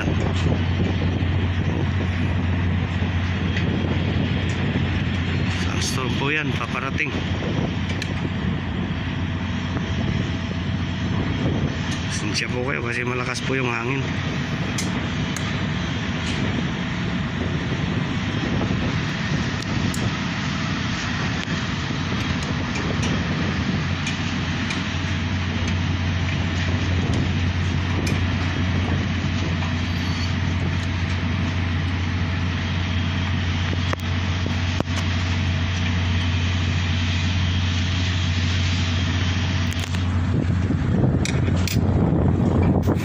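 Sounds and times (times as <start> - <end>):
steady low hum: 0.0 - 43.0
strong wind on microphone: 0.0 - 43.0.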